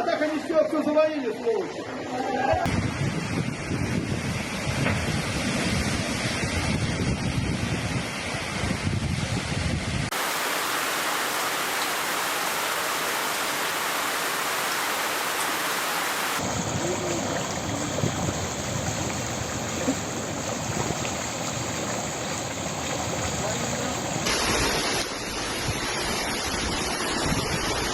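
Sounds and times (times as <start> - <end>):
heavy rain and floodwater rushing: 1.7 - 27.9.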